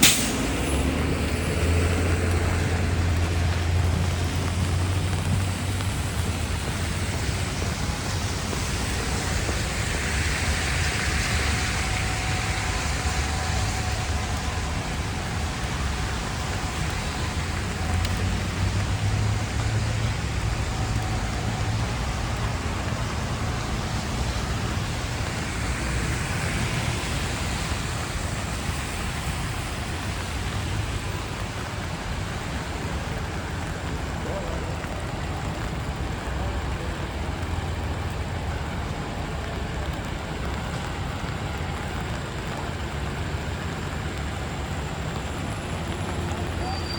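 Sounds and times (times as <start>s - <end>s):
rain falling: 0.0s - 46.9s
traffic rumble: 0.0s - 46.9s
tyres hissing on wet pavement: 0.0s - 46.9s
vehicles passing: 0.0s - 46.9s.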